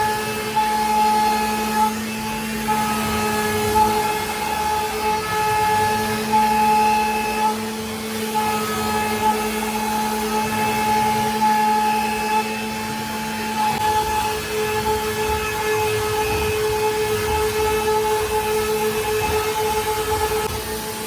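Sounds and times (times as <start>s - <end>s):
router spindle carving wood: 0.0s - 21.0s.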